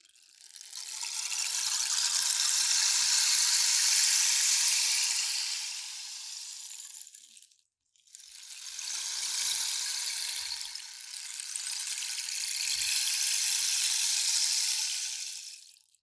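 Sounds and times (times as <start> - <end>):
rainstick pebbles trickling: 0.2 - 16.0.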